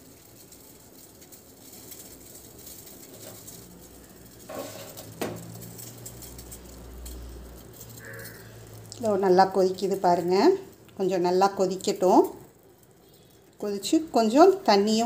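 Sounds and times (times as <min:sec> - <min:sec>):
tea simmering bubbling: 0:00.0 - 0:15.0.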